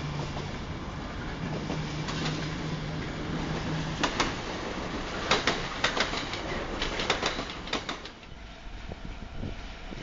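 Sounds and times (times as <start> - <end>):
train wheels clicking on track: 0.0 - 10.0.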